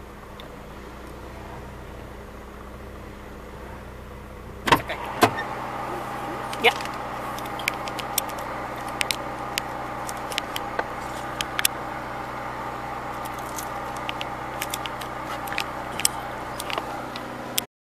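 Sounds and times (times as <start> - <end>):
car engine idling: 0.0 - 17.7.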